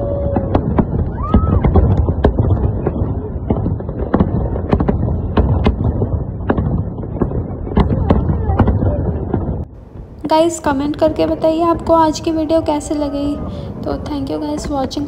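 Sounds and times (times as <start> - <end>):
fireworks bangs and crackles: 0.0 - 15.0
steady low rumble: 0.0 - 15.0.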